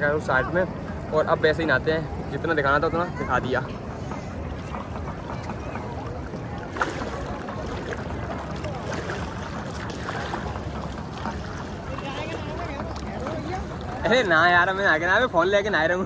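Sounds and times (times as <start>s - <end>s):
moving river water: 0.0s - 16.0s
faint voices: 2.0s - 15.3s.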